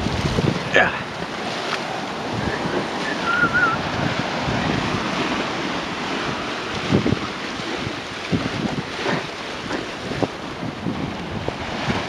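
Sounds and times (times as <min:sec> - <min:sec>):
waves sloshing against sea wall: 0:00.0 - 0:12.0
wind buffeting microphone: 0:00.0 - 0:12.0.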